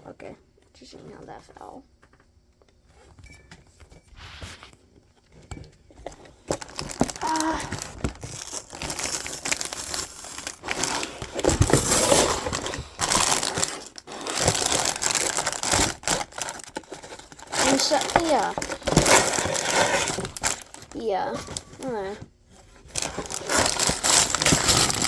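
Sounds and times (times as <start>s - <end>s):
packaging crinkling and rustling: 4.2s - 25.0s.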